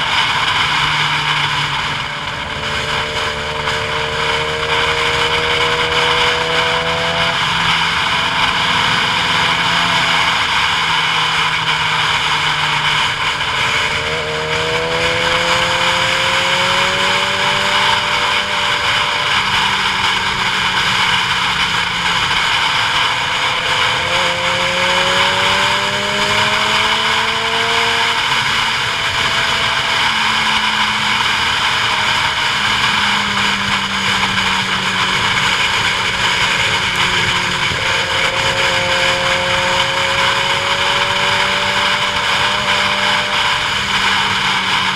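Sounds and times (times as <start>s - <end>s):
vehicle engine running: 0.0s - 44.9s
wind and road noise: 0.0s - 44.9s.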